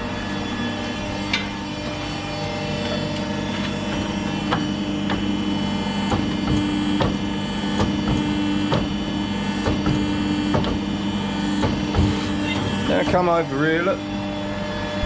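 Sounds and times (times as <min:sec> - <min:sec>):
workshop machinery humming: 0:00.0 - 0:15.0.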